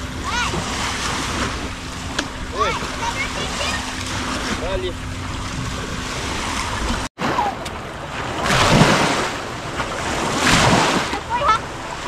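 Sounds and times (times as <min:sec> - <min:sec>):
waves washing on beach: 0:00.0 - 0:12.0.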